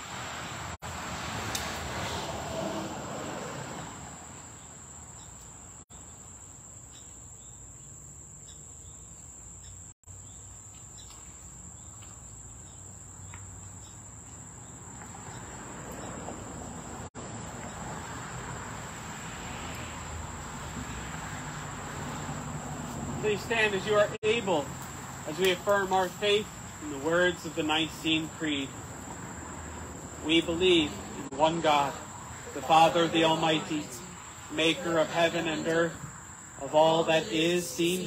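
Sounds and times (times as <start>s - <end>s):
insects buzzing: 1.9s - 38.0s.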